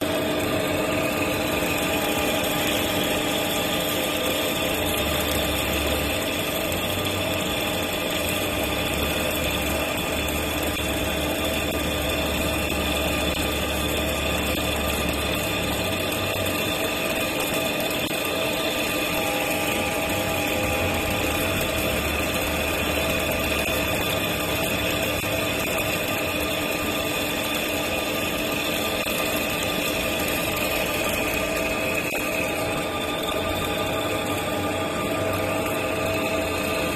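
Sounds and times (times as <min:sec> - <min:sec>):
machine humming and whining: 0:00.0 - 0:36.9.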